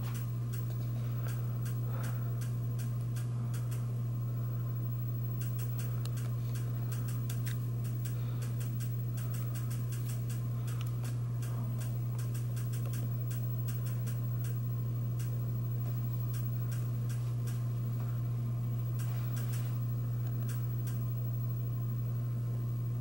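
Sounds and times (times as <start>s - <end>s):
fan ticking: 0.0s - 21.7s
ceiling fan humming: 0.0s - 23.0s.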